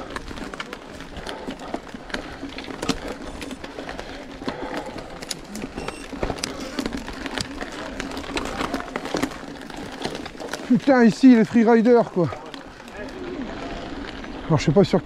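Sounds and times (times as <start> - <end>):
mountain bike rattling: 0.0 - 15.0.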